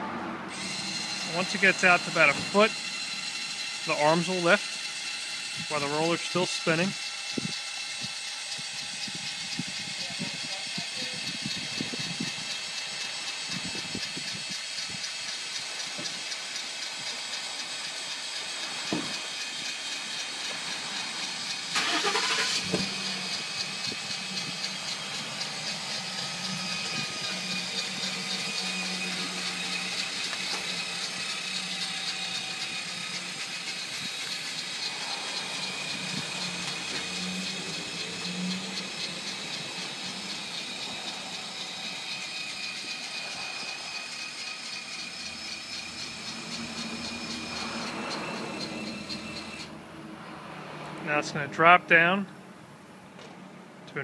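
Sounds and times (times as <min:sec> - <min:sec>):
electric motor whine: 0:00.1 - 0:49.8.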